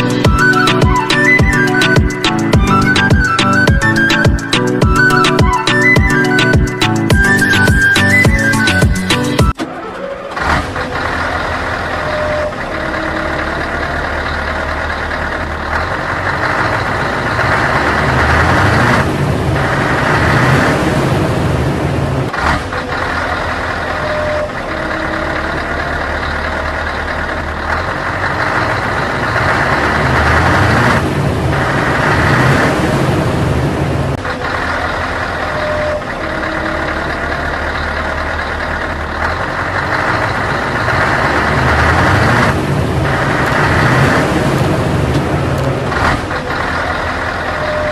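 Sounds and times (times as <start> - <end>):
heavy vehicle engine running: 0.0 - 47.9.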